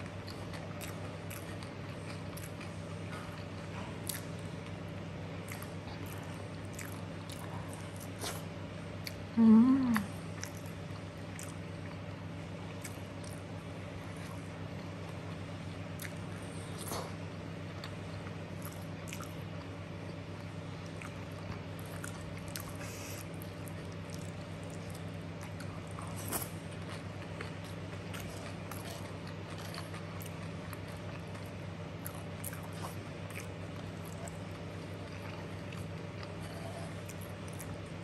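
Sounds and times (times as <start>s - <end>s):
chewing and wet mouth sounds: 0.0s - 38.0s
steady low hum: 0.0s - 38.0s.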